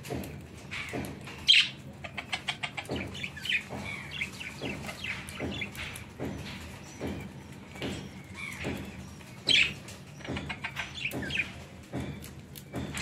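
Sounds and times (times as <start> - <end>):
budgies chirping and warbling: 0.1 - 13.0.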